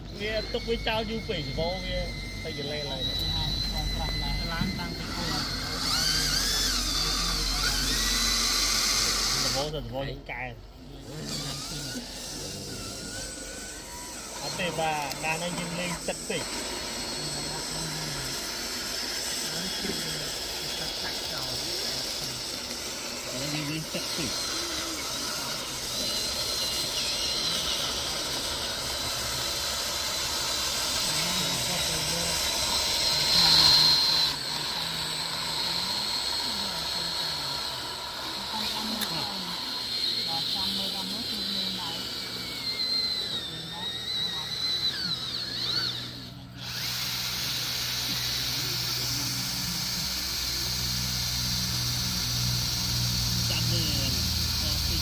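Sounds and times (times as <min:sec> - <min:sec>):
heavy construction machinery running: 0:00.0 - 0:10.5, 0:12.9 - 0:44.7, 0:45.5 - 0:55.0
thin high-pitched whine: 0:00.0 - 0:55.0.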